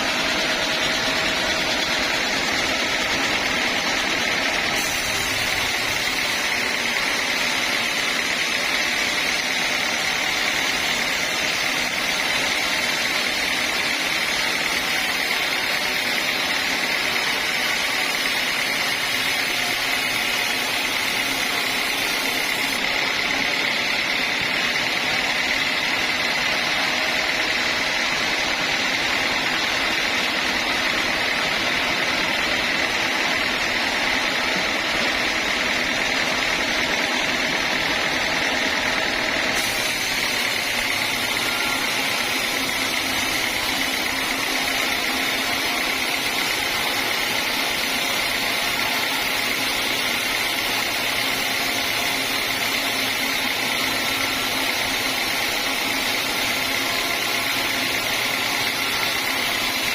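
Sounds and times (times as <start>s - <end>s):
sawmill machinery whining: 0.0s - 59.9s.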